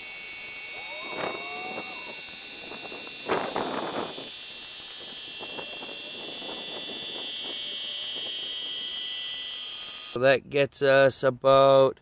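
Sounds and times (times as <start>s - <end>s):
small pump motor whining: 0.0s - 10.2s.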